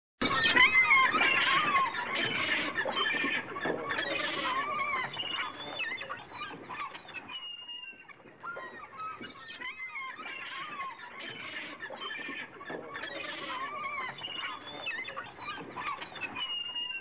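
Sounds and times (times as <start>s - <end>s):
gulls calling: 0.2s - 17.0s.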